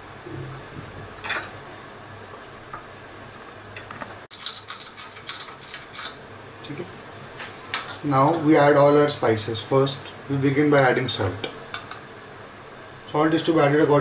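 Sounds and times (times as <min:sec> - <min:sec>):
gas burner hissing: 0:00.0 - 0:14.0.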